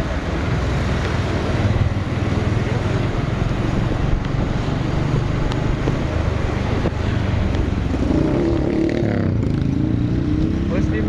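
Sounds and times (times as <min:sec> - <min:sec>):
motorcycle engine rumbling: 0:00.0 - 0:11.0
road and wind noise: 0:00.0 - 0:11.0.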